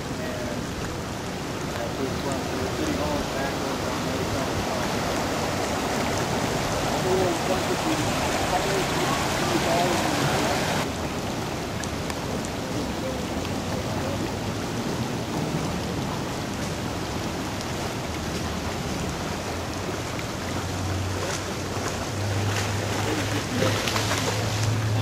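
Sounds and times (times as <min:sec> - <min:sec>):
heavy rain on a street: 0:00.0 - 0:25.0.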